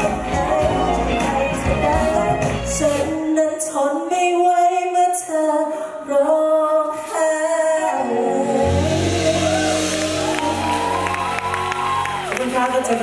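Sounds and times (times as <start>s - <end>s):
live pop band playing: 0.0s - 5.2s, 6.8s - 13.0s.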